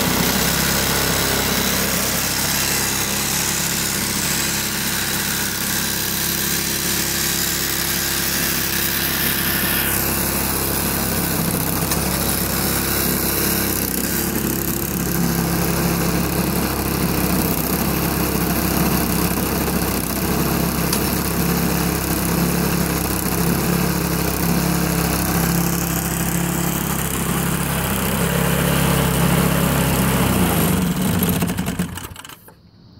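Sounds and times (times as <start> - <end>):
lawn mower engine running: 0.0 - 32.6.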